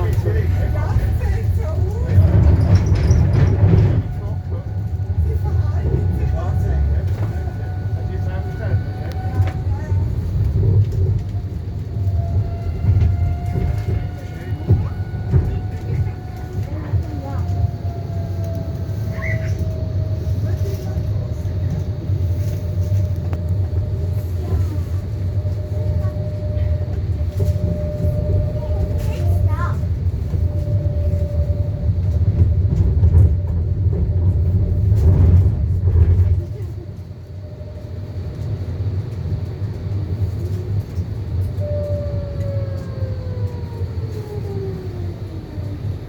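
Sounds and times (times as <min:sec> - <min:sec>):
tram low rumble: 0:00.0 - 0:46.0.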